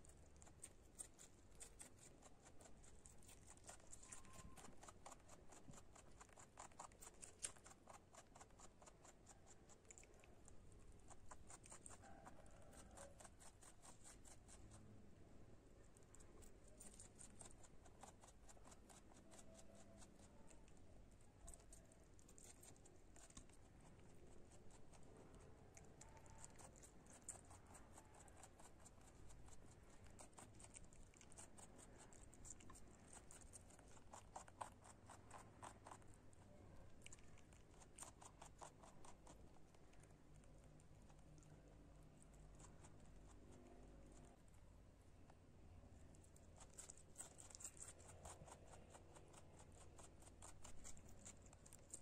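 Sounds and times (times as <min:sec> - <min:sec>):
rabbit chewing cabbage: 0:00.0 - 0:52.0.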